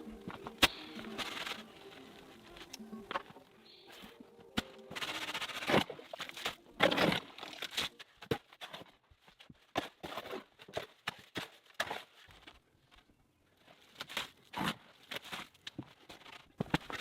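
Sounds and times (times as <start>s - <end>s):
rustling and scraping: 0.0s - 17.0s.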